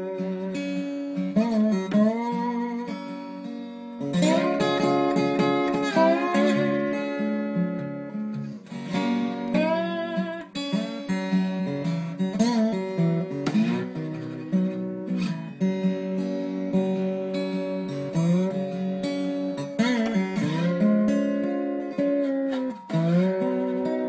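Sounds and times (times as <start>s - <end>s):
slide resonator guitar: 0.0s - 24.0s.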